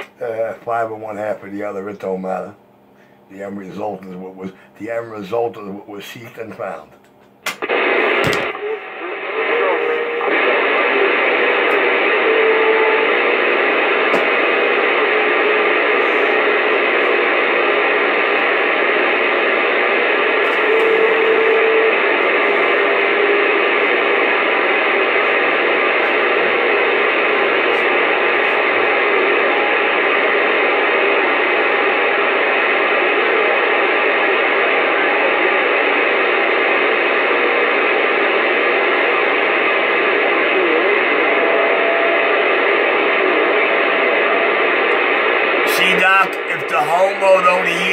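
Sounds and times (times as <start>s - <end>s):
radio static hiss: 0.0s - 47.9s.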